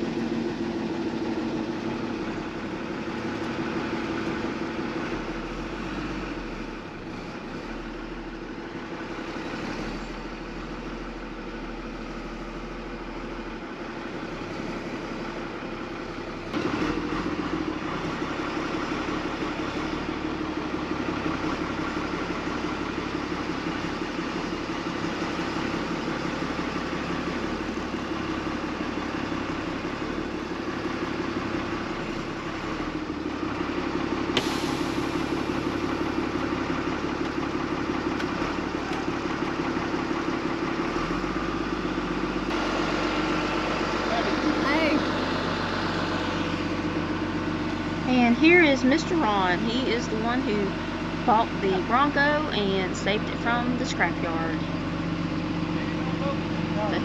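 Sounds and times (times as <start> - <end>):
pickup truck engine humming: 0.0 - 57.0.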